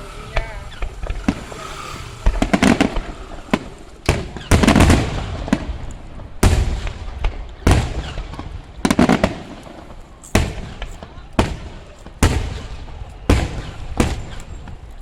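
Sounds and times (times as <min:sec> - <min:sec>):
rumbling echo: 0:00.0 - 0:14.2
fireworks bangs: 0:00.0 - 0:15.0.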